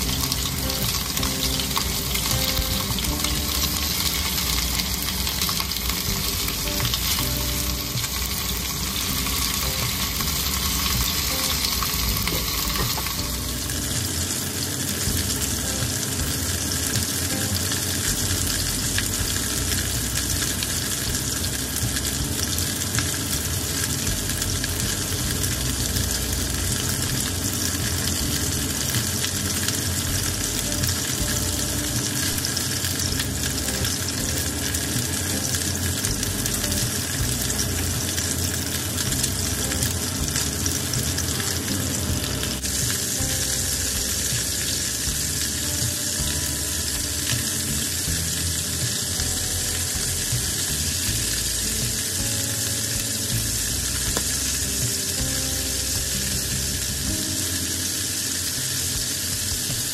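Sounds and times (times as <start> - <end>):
chicken wings sizzling in a pan: 0.0 - 59.9.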